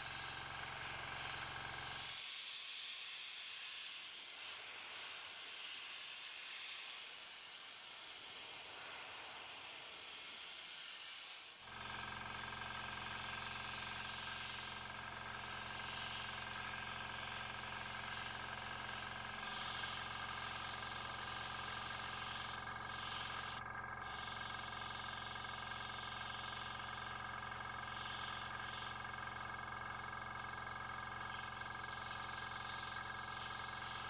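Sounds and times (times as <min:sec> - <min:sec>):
airbrush hissing: 0:00.0 - 0:34.0.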